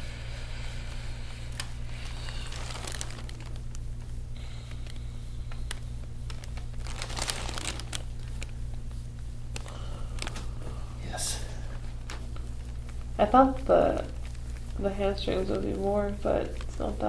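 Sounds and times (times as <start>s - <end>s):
low hum: 0.0s - 17.0s
crinkling massage rubs: 0.6s - 17.0s.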